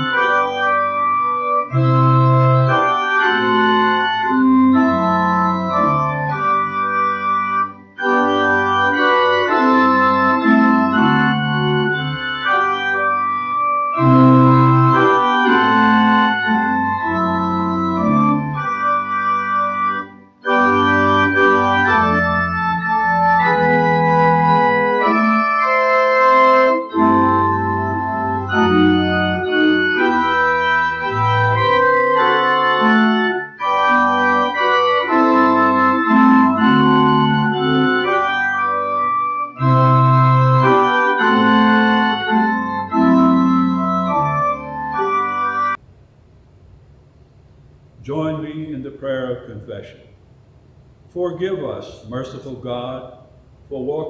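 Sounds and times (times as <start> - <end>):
church organ sustained chords: 0.0 - 45.8, 47.8 - 49.9, 51.0 - 54.0.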